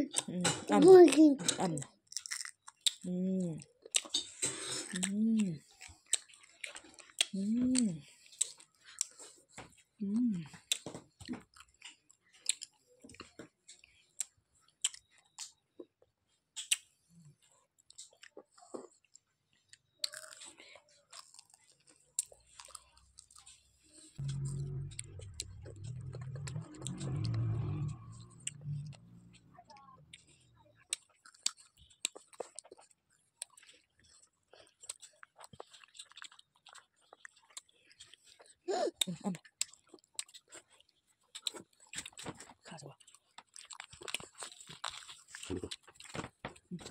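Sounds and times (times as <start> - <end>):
toddler chewing with wet smacks: 0.0 - 28.9, 29.6 - 46.9.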